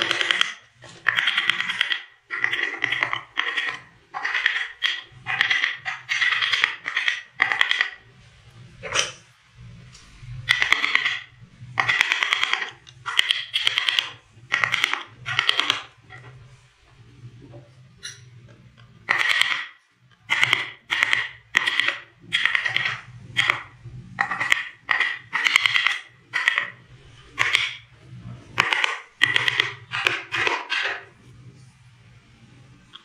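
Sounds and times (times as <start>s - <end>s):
low steady hum: 5.0s - 33.0s.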